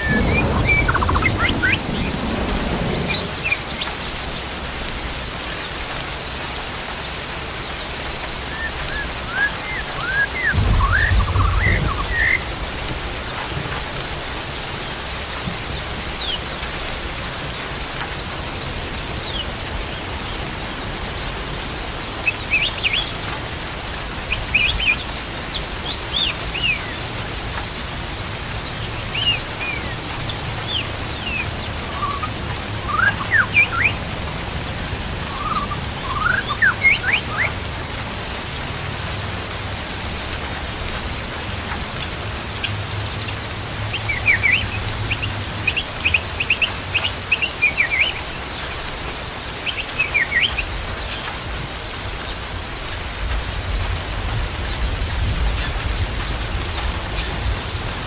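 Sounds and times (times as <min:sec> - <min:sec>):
birds chirping: 0:00.0 - 0:27.4, 0:28.2 - 0:38.6, 0:41.4 - 0:58.0
steady hiss: 0:00.0 - 0:58.0.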